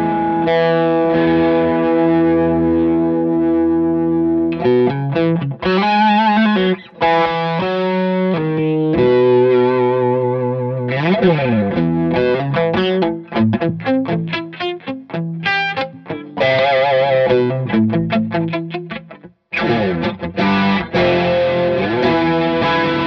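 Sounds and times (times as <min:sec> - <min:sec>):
electric guitar with effects: 0:00.0 - 0:23.0.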